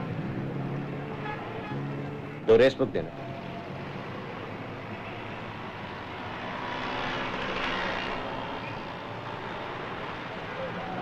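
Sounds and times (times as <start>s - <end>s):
city street traffic: 0.0s - 11.0s
vehicle passing: 0.0s - 11.0s.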